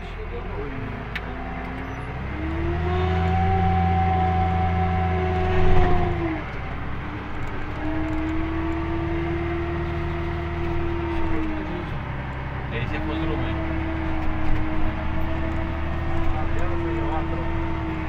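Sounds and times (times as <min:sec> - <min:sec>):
tractor engine running hard: 0:00.0 - 0:18.0
hydraulic whine: 0:01.6 - 0:18.0.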